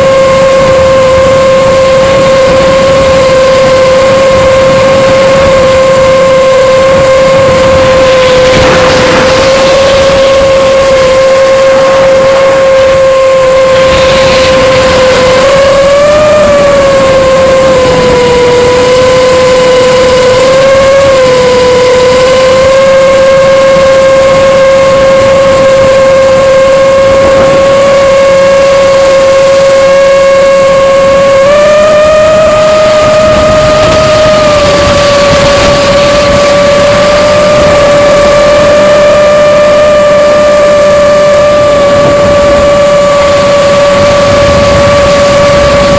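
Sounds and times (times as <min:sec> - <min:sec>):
drone propellers whining: 0:00.0 - 0:45.9.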